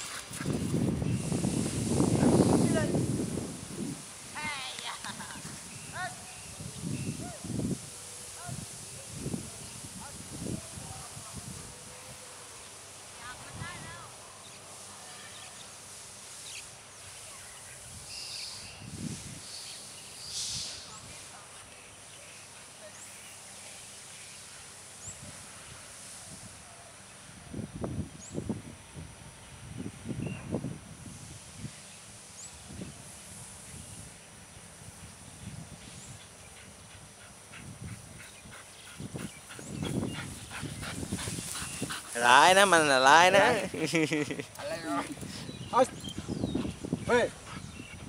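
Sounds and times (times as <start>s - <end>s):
steady outdoor hiss: 0.0s - 48.0s.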